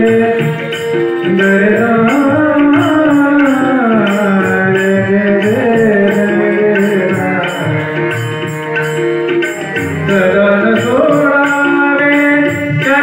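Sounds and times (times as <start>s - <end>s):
man singing: 0.0s - 8.2s, 9.8s - 13.0s
harmonium chords: 0.0s - 13.0s
tabla rhythm: 0.0s - 13.0s.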